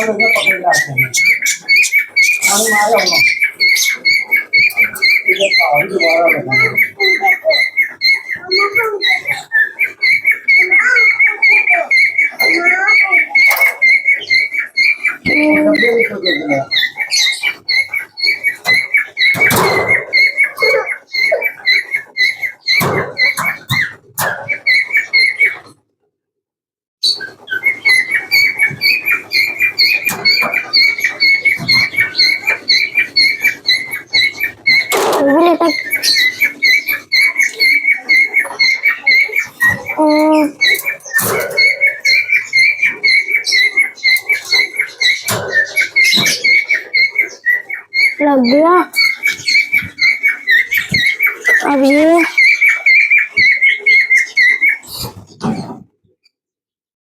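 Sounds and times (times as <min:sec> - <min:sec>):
parrot chirping: 0:00.0 - 0:25.8, 0:27.0 - 0:55.9.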